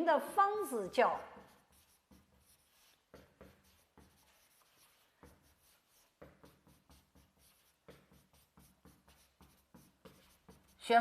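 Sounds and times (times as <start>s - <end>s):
faint handwriting scratches: 1.2s - 11.0s.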